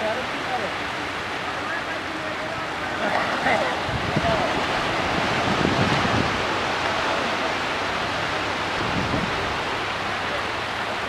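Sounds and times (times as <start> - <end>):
surf washing onto beach: 0.0 - 11.0.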